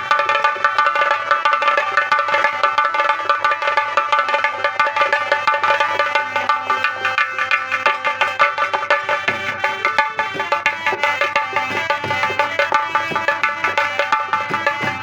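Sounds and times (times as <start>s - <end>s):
clacking percussion: 0.0s - 15.0s
fast hand drum: 0.0s - 15.0s.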